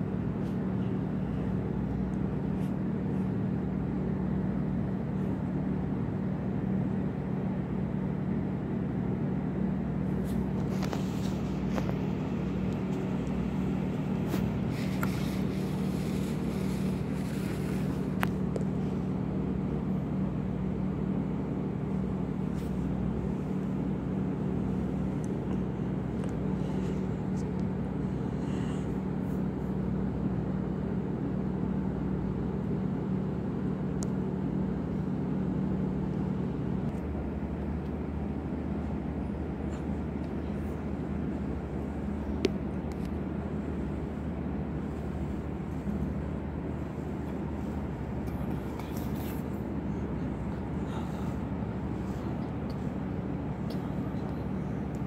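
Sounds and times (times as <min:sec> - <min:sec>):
low engine drone: 0:00.0 - 0:55.0.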